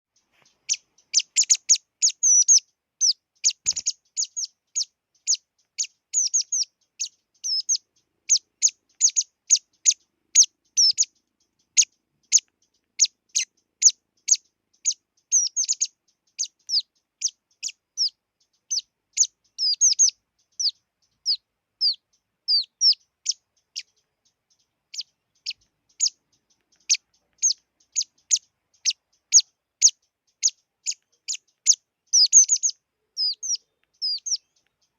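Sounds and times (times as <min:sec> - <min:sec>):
small bird chirping: 0:00.1 - 0:34.9.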